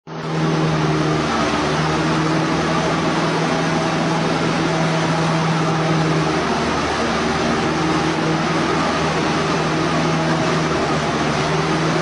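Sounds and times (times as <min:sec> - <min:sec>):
light aircraft engine and propeller: 0:00.1 - 0:12.0.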